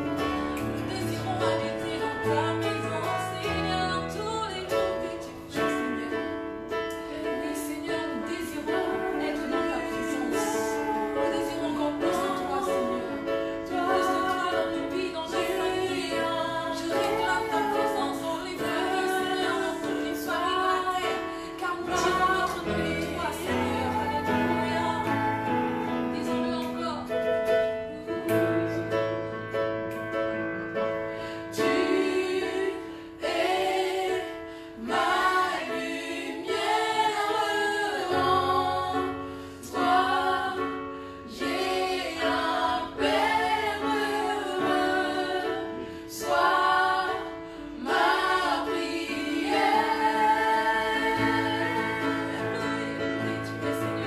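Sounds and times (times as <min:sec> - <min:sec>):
woman and children singing: 0:00.6 - 0:06.4, 0:07.0 - 0:28.9, 0:31.5 - 0:54.0.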